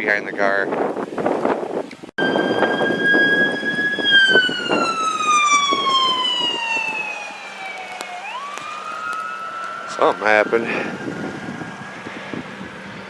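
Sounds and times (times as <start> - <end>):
emergency siren wailing: 2.2 - 13.0.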